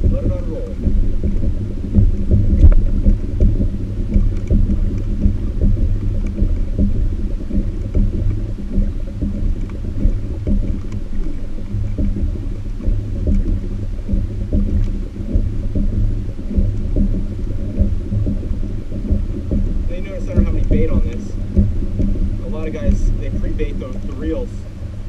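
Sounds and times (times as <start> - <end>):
faint hum: 0.0 - 25.0
low rumble of water and wind: 0.0 - 25.0
light ticks: 0.3 - 24.7.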